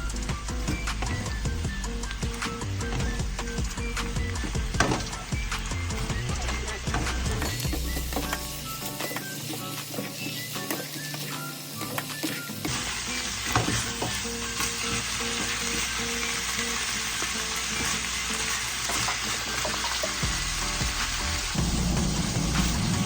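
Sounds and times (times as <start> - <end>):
meat sizzling in a hot pan: 0.0 - 23.0.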